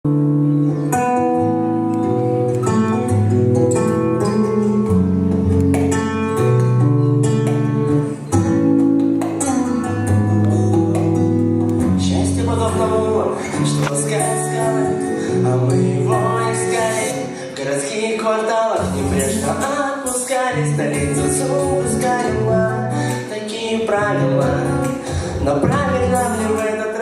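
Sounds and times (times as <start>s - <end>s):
guitar playing chords: 0.0s - 27.0s.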